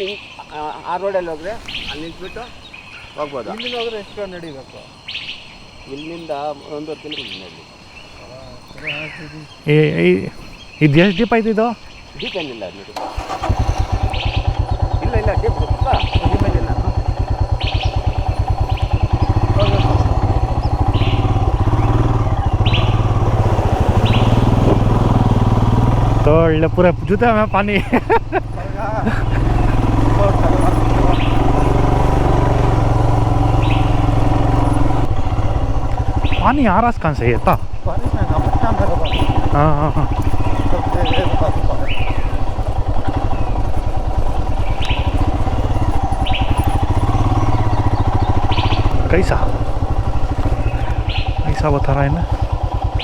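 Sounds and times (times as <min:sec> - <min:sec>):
bird chirping: 0:00.0 - 0:53.0
motorcycle engine running: 0:10.5 - 0:53.0.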